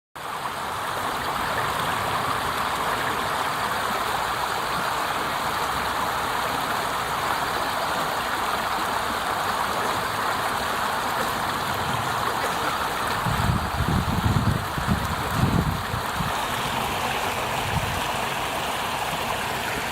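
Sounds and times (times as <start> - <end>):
water rushing down a cascade: 0.2 - 19.9.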